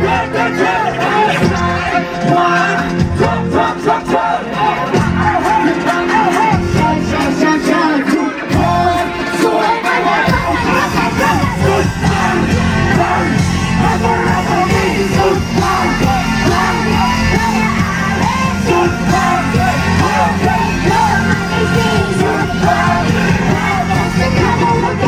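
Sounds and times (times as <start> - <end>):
crowd shouting and singing along: 0.0 - 25.0
live concert music with heavy bass: 0.0 - 25.0
person singing: 0.0 - 25.0.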